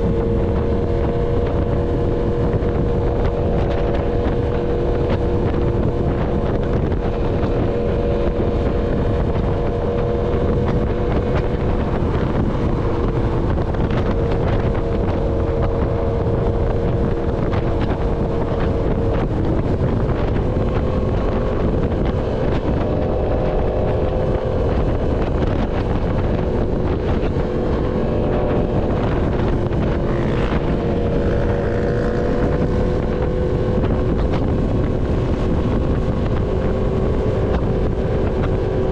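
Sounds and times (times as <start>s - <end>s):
motorcycle engine cruising: 0.0s - 38.9s
wind noise on microphone: 0.0s - 38.9s.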